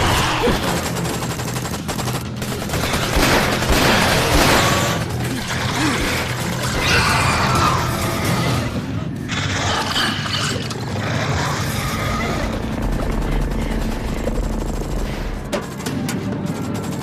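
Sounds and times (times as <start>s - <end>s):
rapid gunfire: 0.0s - 8.4s, 11.6s - 17.0s
dramatic music score: 0.0s - 17.0s.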